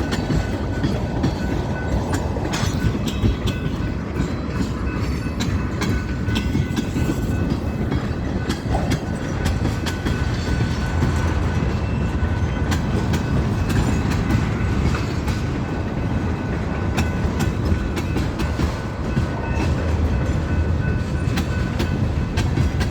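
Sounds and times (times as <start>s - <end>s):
train rumble: 0.0s - 22.9s
train wheels clicking over rail joints: 0.0s - 22.9s.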